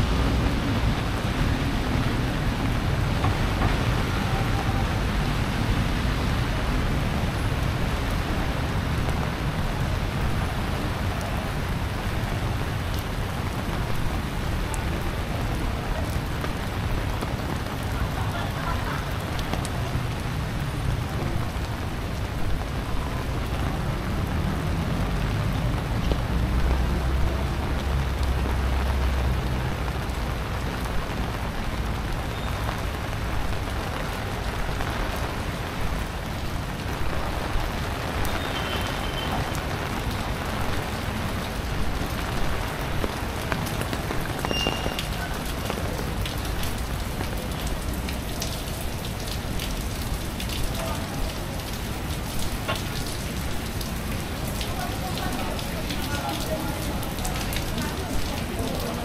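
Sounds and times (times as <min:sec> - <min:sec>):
heavy rain splashing on paving: 0:00.0 - 0:59.0.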